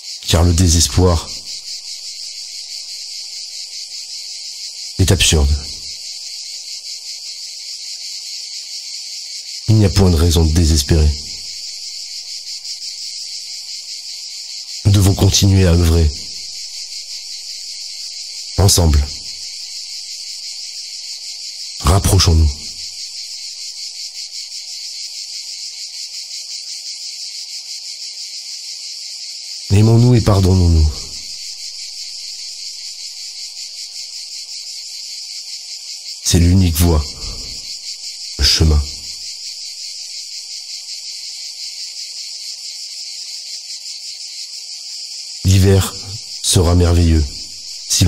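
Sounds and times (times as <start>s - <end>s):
insects chirping: 0.0s - 48.0s.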